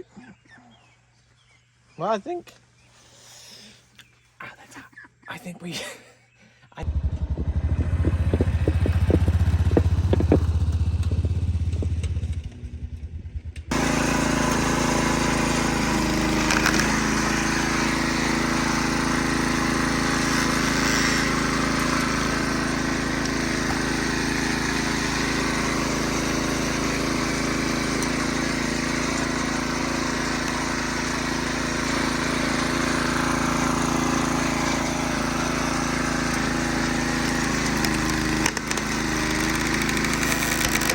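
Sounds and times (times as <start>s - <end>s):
small engine running: 6.8s - 40.9s.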